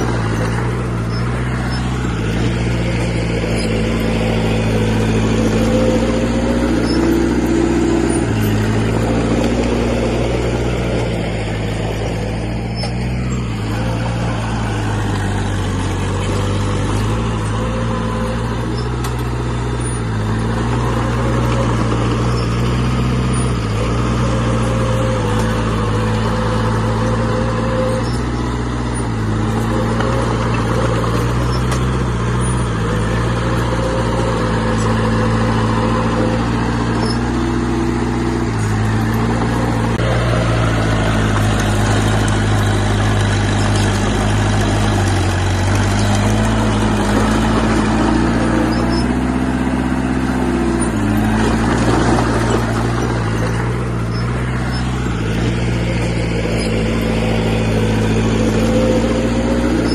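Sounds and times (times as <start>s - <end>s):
diesel engine working: 0.0s - 59.9s.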